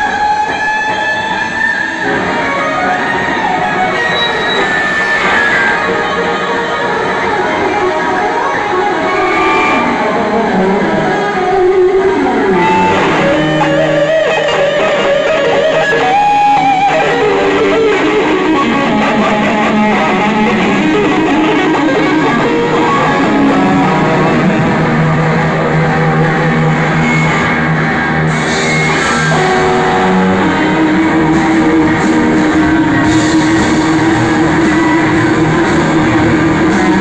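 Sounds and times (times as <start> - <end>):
bass guitar: 0.0 - 37.0
drums: 0.0 - 37.0
electric guitars: 0.0 - 37.0.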